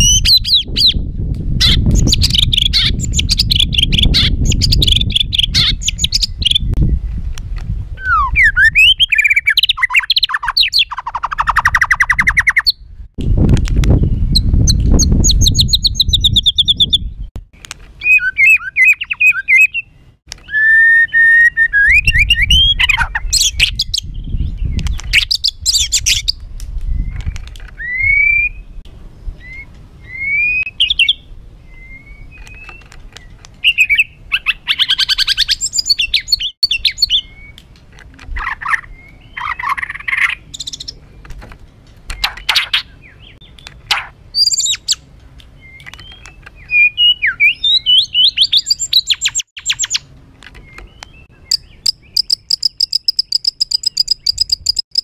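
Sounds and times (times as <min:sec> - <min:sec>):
bird singing trills and whistles: 0:00.0 - 0:07.0, 0:08.0 - 0:12.9, 0:13.9 - 0:17.3, 0:18.0 - 0:37.6, 0:38.4 - 0:41.3, 0:42.1 - 0:55.0.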